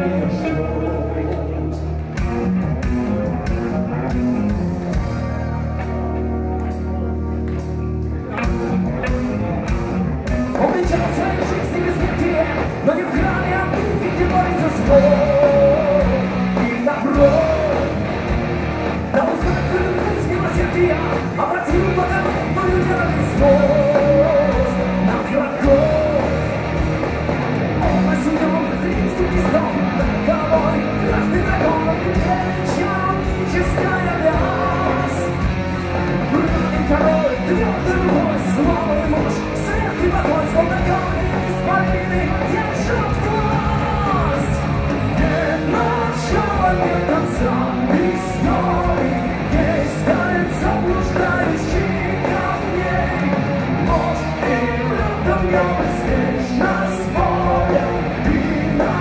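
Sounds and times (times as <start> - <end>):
man singing: 0.0 - 2.0, 10.4 - 18.2, 19.1 - 26.7, 27.8 - 35.6, 36.2 - 59.0
heavy metal band playing: 0.0 - 59.0.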